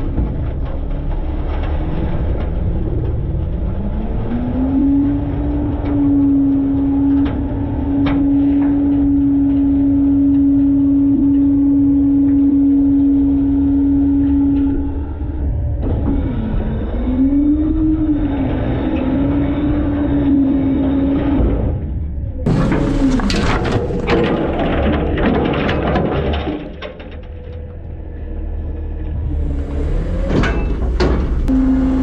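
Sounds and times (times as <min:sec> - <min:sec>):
garbage truck engine revving: 0:00.8 - 0:26.4, 0:28.2 - 0:32.0.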